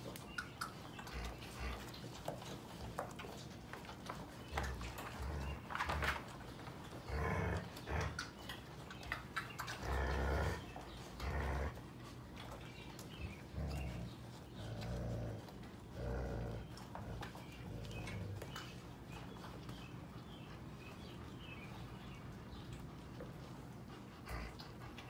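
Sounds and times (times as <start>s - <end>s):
dogs growling: 0.8s - 25.0s.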